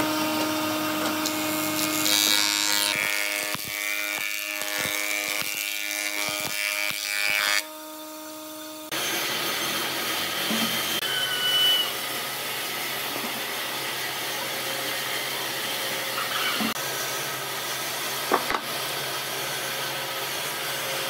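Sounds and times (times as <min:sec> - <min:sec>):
workshop machine running: 0:00.0 - 0:21.0.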